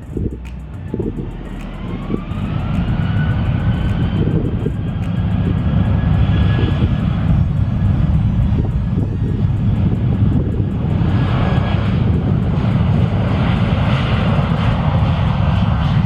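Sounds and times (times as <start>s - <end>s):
jet engines whining: 0.0s - 16.0s
wind buffeting microphone: 0.0s - 16.0s.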